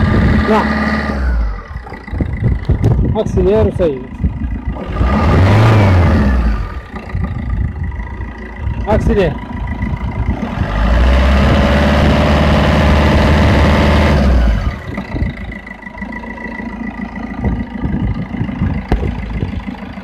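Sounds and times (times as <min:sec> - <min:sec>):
diesel car engine revving: 0:00.0 - 0:20.0.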